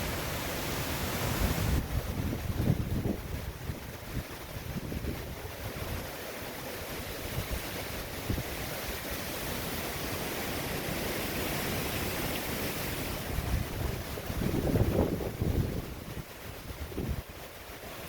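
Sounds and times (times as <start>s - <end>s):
wind and heavy rain rushing: 0.0s - 18.0s
wind gusts buffeting microphone: 0.0s - 18.0s.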